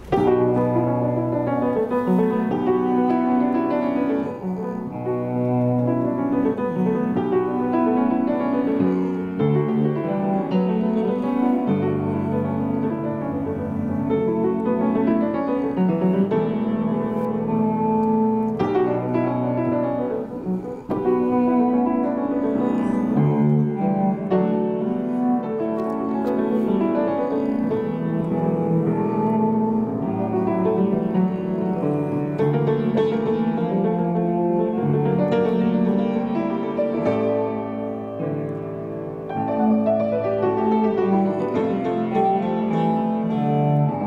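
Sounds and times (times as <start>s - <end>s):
jazz piano piece: 0.0s - 44.0s.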